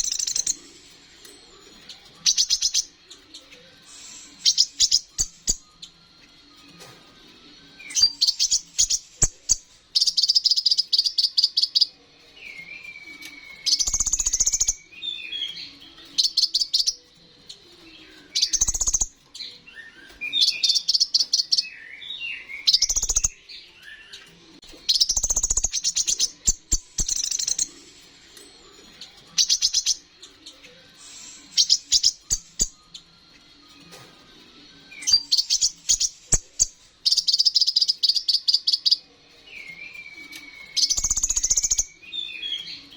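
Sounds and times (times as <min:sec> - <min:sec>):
soft lower bird twittering: 0:00.0 - 0:00.9, 0:01.6 - 0:06.0, 0:07.8 - 0:17.0, 0:18.0 - 0:24.2, 0:24.8 - 0:27.9, 0:29.0 - 0:33.1, 0:34.9 - 0:42.9.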